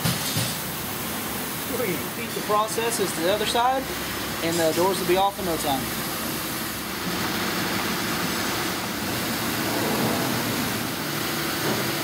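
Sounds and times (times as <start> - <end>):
faint ventilation hum: 0.0 - 12.0.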